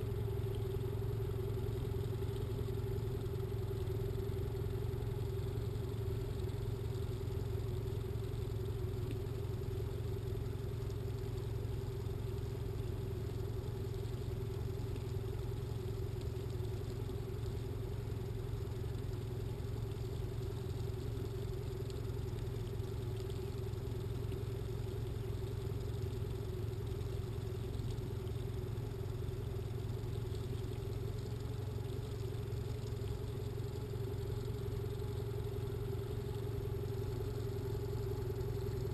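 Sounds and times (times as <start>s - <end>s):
boat motor humming: 0.0s - 38.9s.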